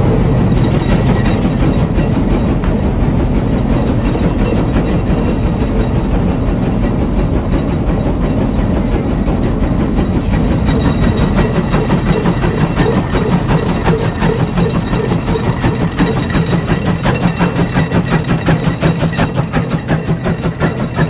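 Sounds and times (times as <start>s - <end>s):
steam engine rumble and clatter: 0.0s - 21.0s.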